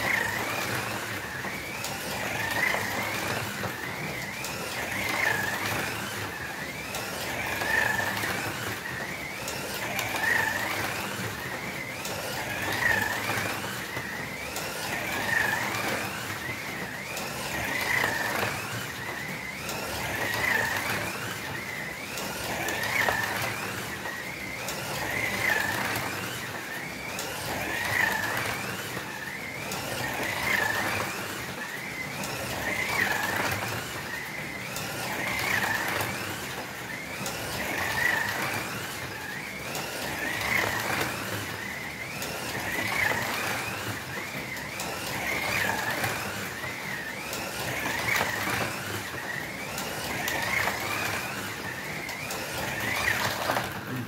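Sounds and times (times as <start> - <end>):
slot car motors whining: 0.0 - 54.0.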